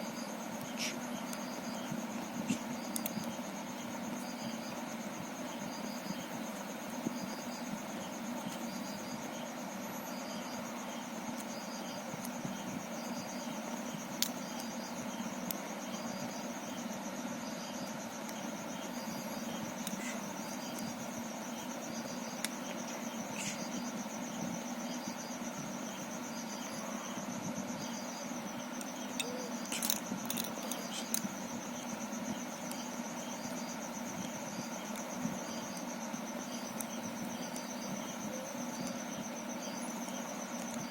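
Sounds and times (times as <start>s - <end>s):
crickets chirping: 0.0s - 40.9s
low steady hum: 0.0s - 40.9s.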